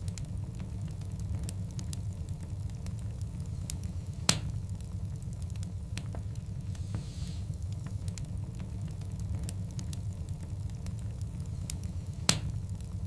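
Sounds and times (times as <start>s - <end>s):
burning logs crackling: 0.0s - 13.0s
low fire rumble: 0.0s - 13.0s.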